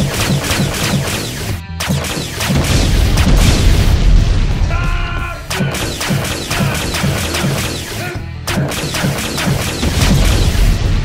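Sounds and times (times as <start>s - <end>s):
action music with low beat: 0.0s - 11.0s
explosions and gunfire: 0.0s - 11.0s.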